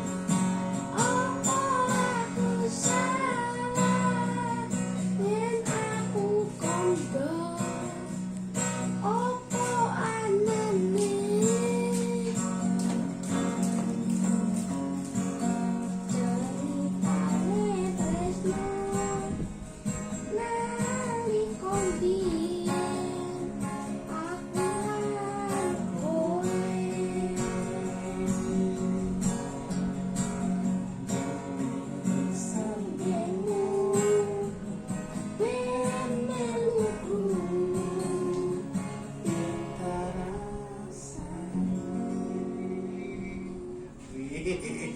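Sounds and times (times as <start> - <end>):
strummed acoustic guitar: 0.0 - 44.9
person singing: 0.8 - 29.5, 30.8 - 44.9.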